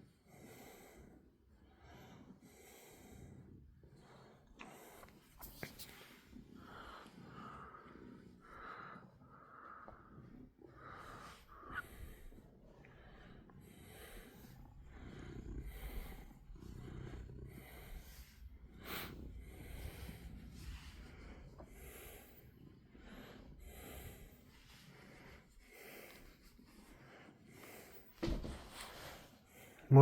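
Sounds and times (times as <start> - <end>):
cat snorting softly: 1.8 - 29.8.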